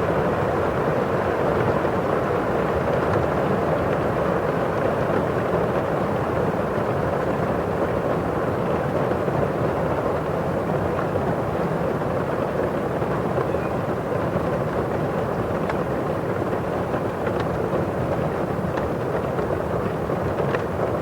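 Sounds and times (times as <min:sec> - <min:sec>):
rain on a window pane: 0:00.0 - 0:21.0.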